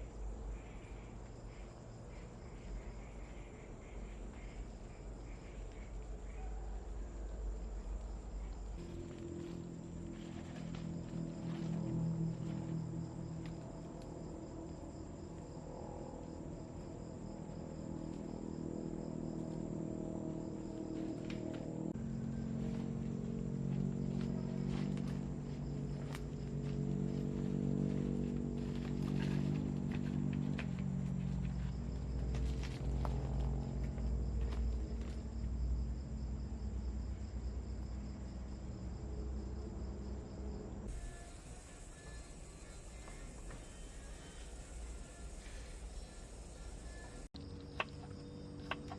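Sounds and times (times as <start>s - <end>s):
insects chirring: 0.0s - 48.9s
low steady hum: 0.0s - 48.9s.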